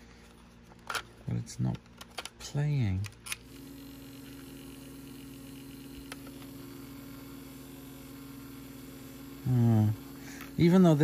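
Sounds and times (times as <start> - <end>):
cassette player motor humming: 0.0 - 11.0.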